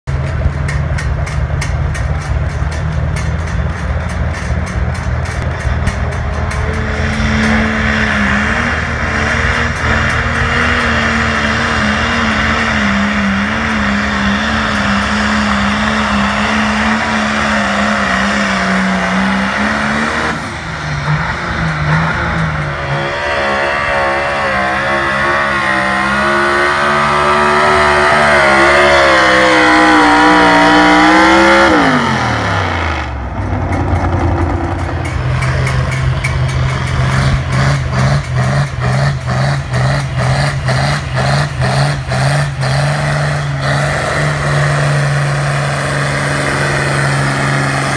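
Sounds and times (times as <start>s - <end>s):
tractor engine running flat out: 0.1s - 47.9s.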